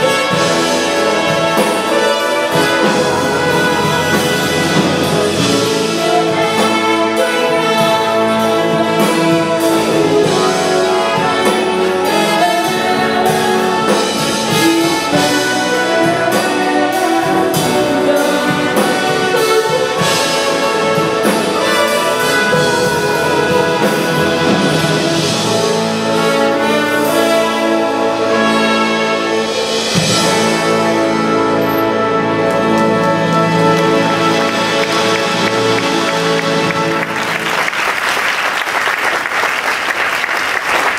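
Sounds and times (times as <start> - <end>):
wind band playing: 0.0 - 40.9.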